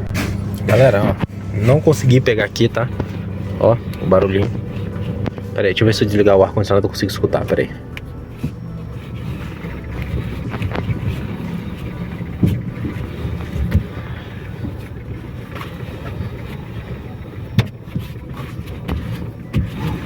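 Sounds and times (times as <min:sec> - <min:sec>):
car interior engine and road rumble: 0:00.0 - 0:20.0.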